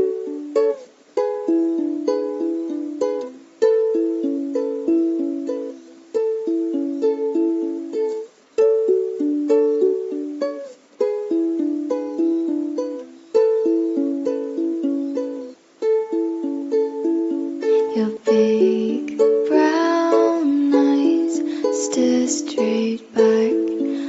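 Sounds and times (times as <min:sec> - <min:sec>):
plucked string instrument: 0:00.0 - 0:24.0.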